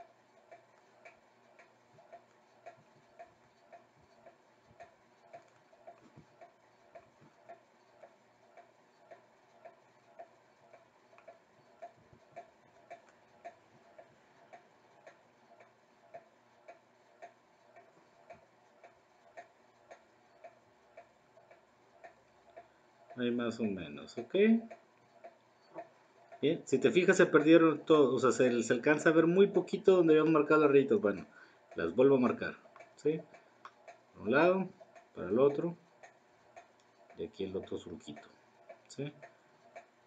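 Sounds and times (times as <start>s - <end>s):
faint steady ticking: 0.0s - 40.0s.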